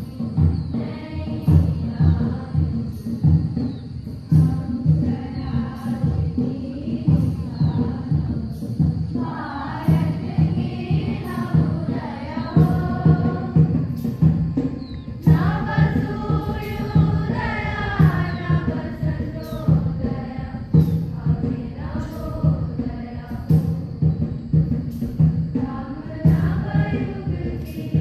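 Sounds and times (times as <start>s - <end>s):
group singing in chorus: 0.0s - 28.0s
steady drum beat: 0.0s - 28.0s.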